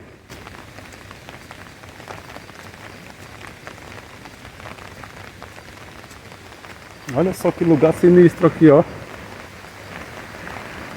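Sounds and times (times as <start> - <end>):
steady rain falling: 0.0 - 10.9.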